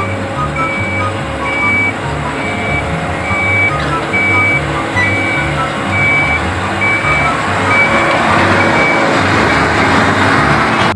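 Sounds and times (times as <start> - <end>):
reversing alarm beeping: 0.0 - 9.8
diesel engine running: 0.0 - 10.9.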